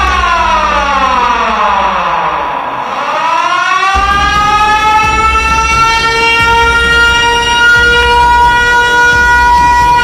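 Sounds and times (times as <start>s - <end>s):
low hum: 0.0s - 8.4s
warning siren wailing: 0.0s - 10.0s.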